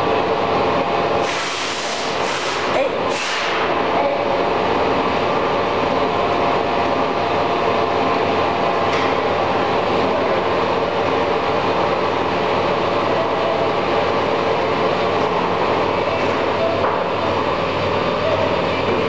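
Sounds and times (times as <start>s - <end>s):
lathe motor humming and whining: 0.0s - 19.0s.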